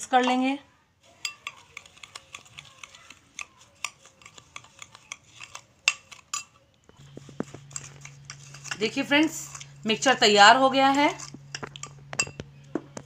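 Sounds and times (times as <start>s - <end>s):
metal spoon scraping glass bowl: 1.2s - 12.4s.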